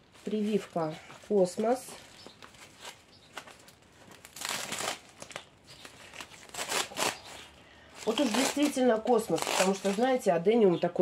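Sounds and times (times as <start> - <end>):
paper wrapping crinkling: 0.0 - 10.2.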